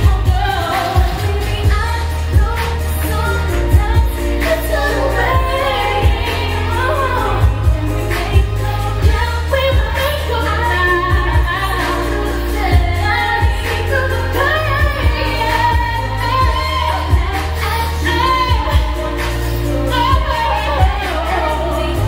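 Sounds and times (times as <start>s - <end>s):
heavy bass line: 0.0s - 22.0s
woman singing pop song: 0.0s - 22.0s.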